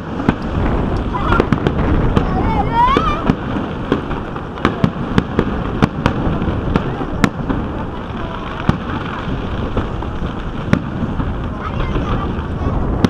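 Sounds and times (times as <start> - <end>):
distant fireworks rumble: 0.0 - 13.0
fireworks bangs and pops: 0.0 - 13.0.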